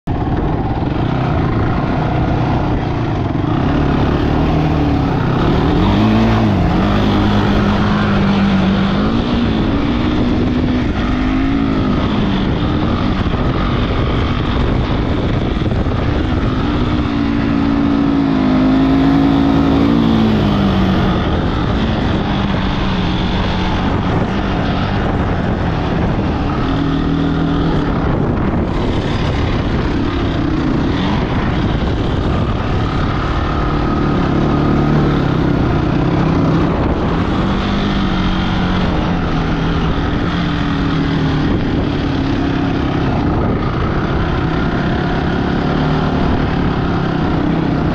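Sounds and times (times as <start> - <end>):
wind on microphone: 0.0 - 47.9
atv engine revving: 0.1 - 47.9.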